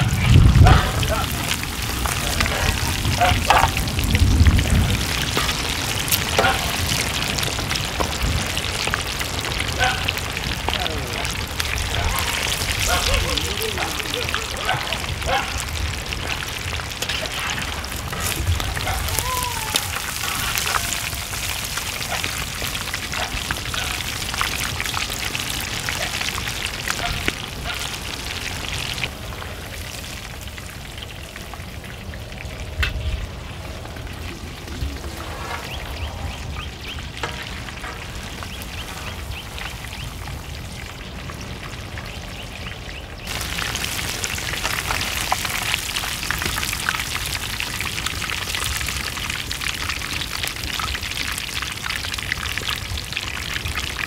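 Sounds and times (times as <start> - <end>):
chicken sizzling in hot oil: 0.0 - 54.0
oil crackling and popping: 0.0 - 54.0.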